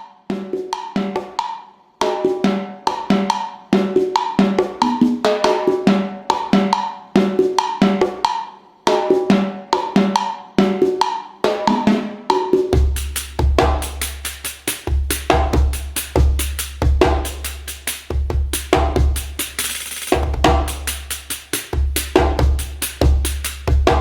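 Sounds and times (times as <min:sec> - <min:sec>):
pitched drum rhythm: 0:02.0 - 0:24.0.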